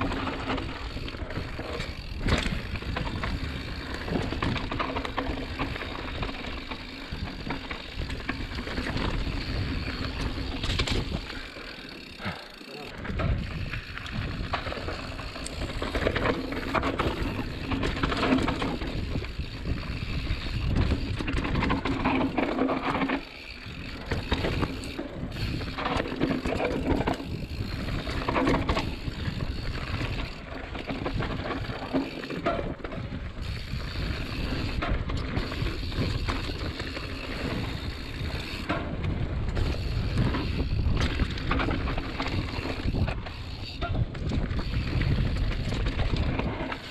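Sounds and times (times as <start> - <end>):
wind noise on microphone: 0.0 - 11.4, 13.0 - 46.9
bike rattling: 0.0 - 46.9
bike tyres rumbling on dirt: 0.0 - 46.9.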